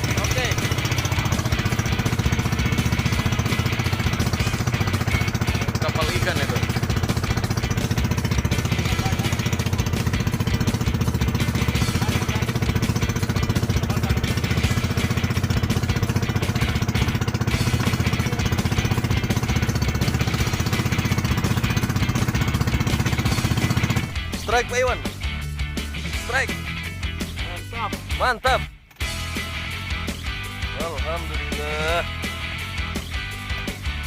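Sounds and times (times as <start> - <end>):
boat engine chugging: 0.0 - 34.0.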